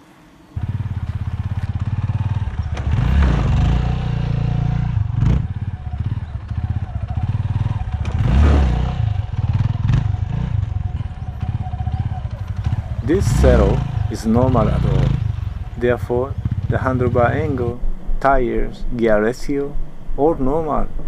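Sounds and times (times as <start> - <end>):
motorcycle engine revving: 0.5 - 18.2.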